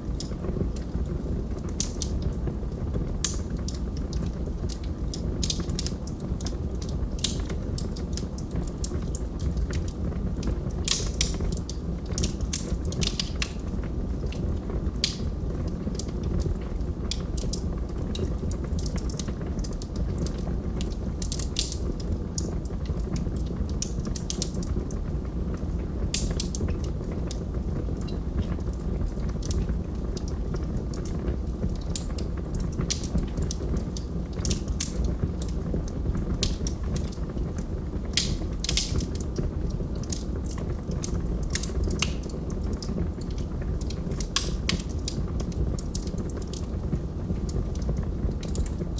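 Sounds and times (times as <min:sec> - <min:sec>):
fire crackling and popping: 0:00.0 - 0:48.9.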